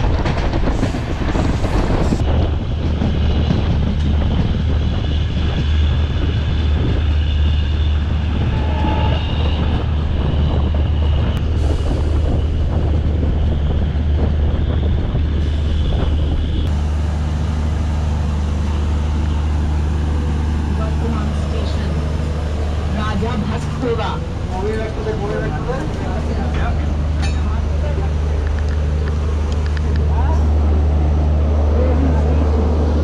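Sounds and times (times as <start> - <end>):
train rumbling on track: 0.0 - 33.0.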